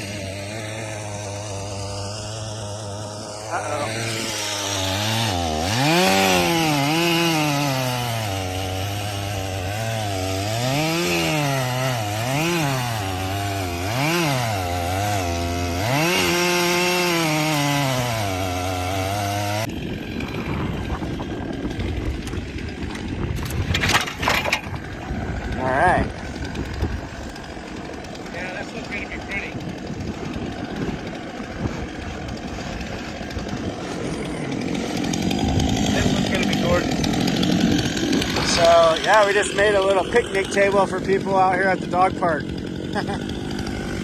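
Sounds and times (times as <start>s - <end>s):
chainsaw engine cutting log: 0.0s - 44.0s.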